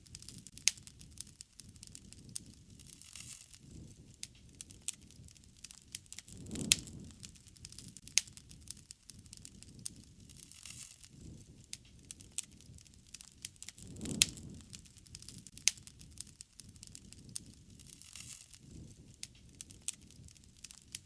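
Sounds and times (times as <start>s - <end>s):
soft rush of burning: 0.0s - 21.0s
wood fire crackling and popping: 0.0s - 21.0s.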